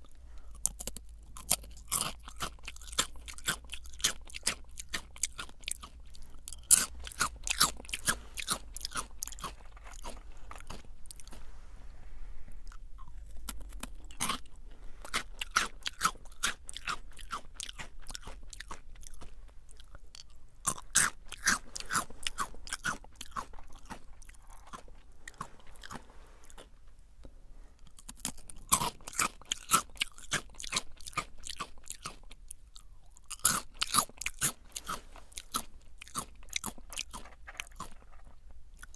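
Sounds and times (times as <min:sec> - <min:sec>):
crunchy snack chewing: 0:00.0 - 0:11.5, 0:12.6 - 0:27.0, 0:27.8 - 0:38.9.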